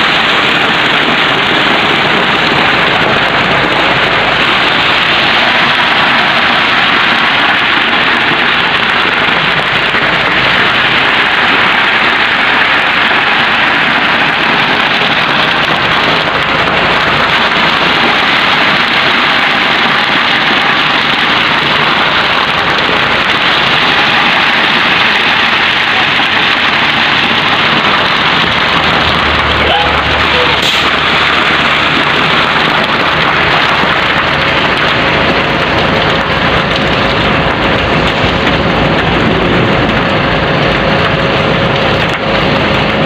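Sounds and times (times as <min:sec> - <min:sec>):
concrete mixer truck running: 0:00.0 - 0:43.0.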